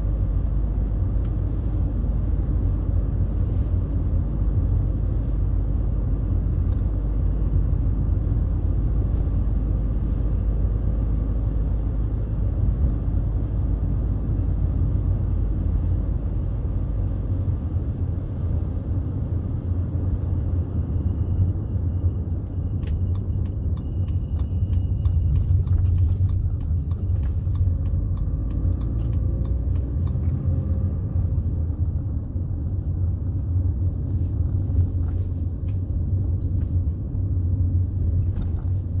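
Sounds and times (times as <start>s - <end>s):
diesel car engine rumbling: 0.0s - 39.0s
road noise: 0.0s - 39.0s.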